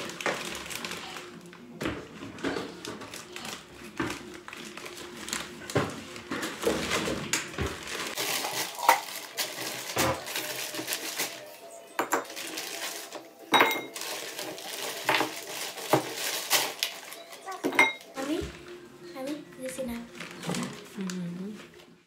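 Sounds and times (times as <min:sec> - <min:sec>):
plastic bag crinkling: 0:00.0 - 0:18.4, 0:19.2 - 0:21.9.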